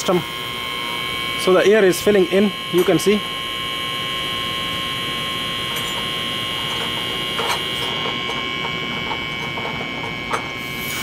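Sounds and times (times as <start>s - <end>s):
air compressor whining: 0.0s - 11.0s.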